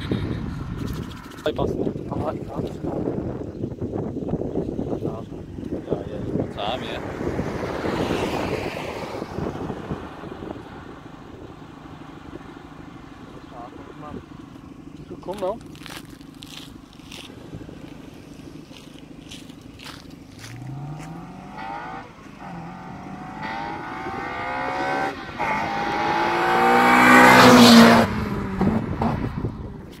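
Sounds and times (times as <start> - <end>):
car accelerating and passing: 5.3 - 30.0.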